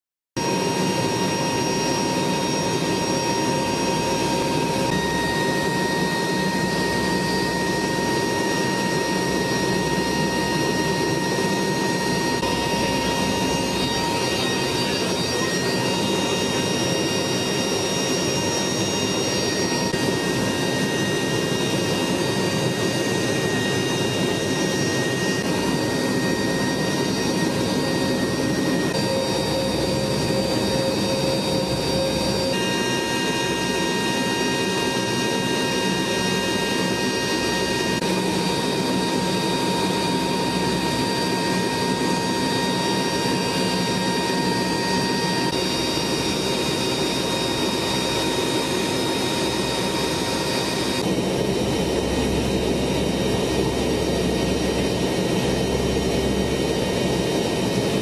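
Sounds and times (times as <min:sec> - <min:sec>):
turboprop engines in flight: 0:00.4 - 0:58.0.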